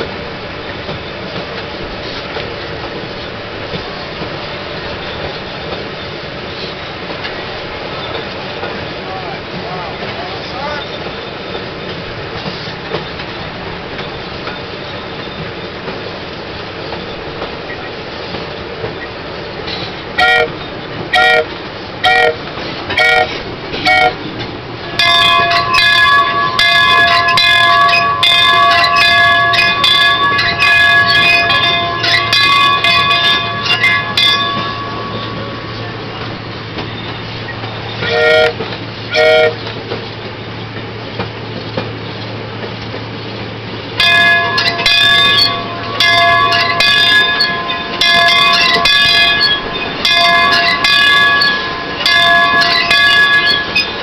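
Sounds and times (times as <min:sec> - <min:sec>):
rail car running rumble: 0:00.0 - 0:54.0.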